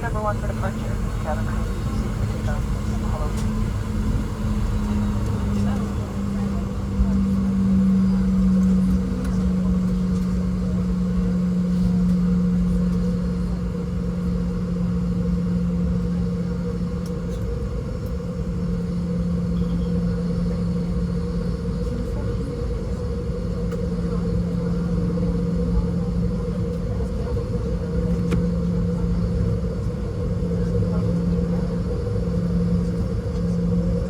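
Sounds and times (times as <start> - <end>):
aircraft rolling noise: 0.0 - 34.0
jet engines humming: 0.0 - 34.0.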